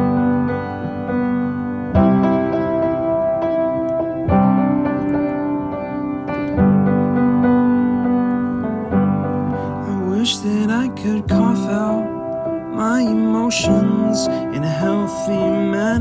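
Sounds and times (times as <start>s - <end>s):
slow held keyboard chords: 0.0s - 16.0s.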